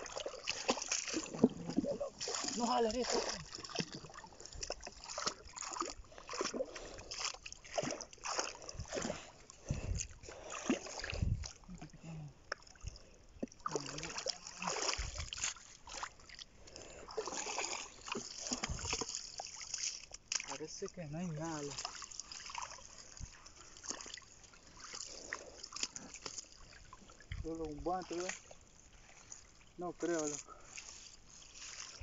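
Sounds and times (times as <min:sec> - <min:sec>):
shallow water splashing: 0:00.0 - 0:32.0.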